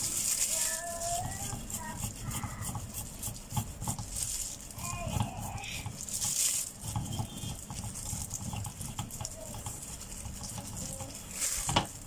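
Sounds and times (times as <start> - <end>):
sweet potato rasping on grater: 0.0 - 12.0
grater knocking in bowl: 0.7 - 12.0.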